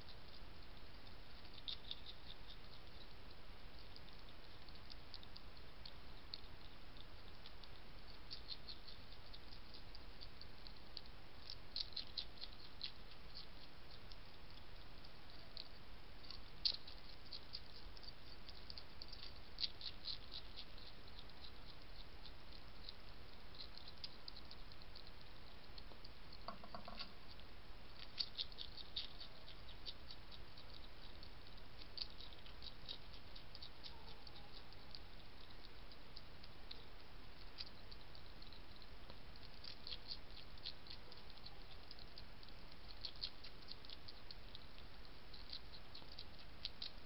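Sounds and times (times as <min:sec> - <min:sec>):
hedgehog crunching food pellets: 0:00.0 - 0:47.0.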